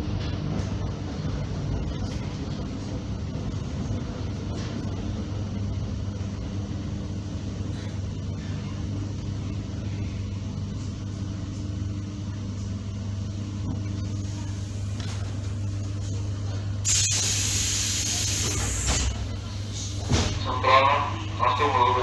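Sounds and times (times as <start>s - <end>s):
train low hum: 0.0s - 22.0s
train running rumble: 0.0s - 22.0s.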